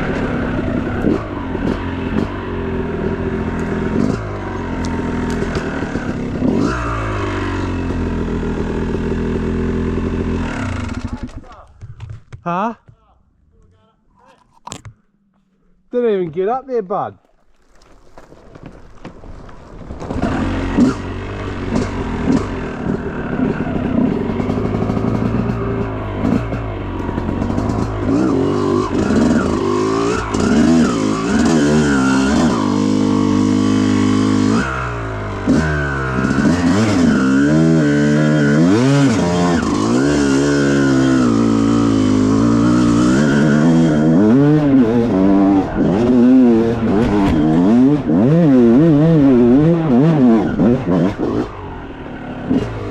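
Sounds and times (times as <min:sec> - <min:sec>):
dirt bike engine revving: 0:00.0 - 0:11.4, 0:20.1 - 0:52.9.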